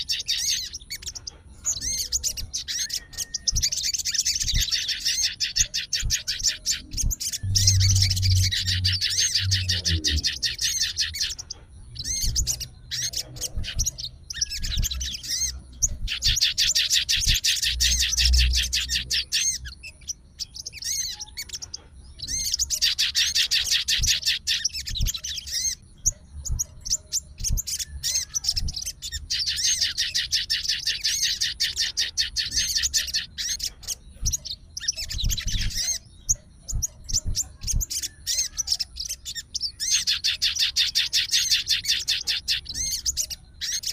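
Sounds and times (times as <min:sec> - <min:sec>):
birds chirping rapidly: 0:00.0 - 0:43.9.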